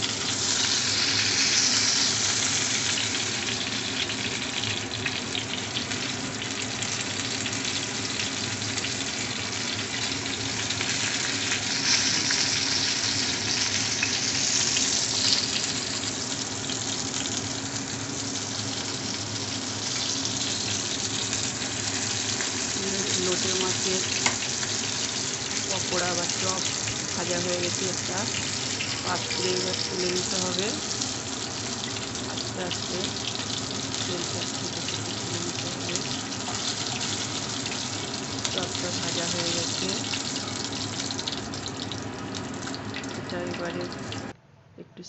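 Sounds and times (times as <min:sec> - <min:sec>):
fish frying in hot oil: 0:00.0 - 0:44.4.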